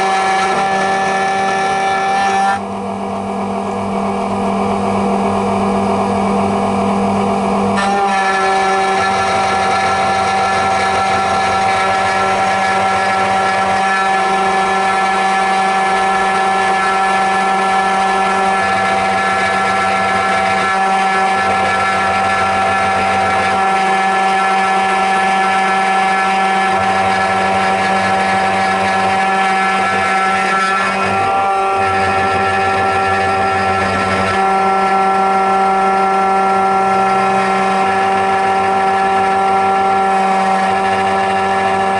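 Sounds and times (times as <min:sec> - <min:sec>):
key cutting machine whining: 0:00.0 - 0:41.9.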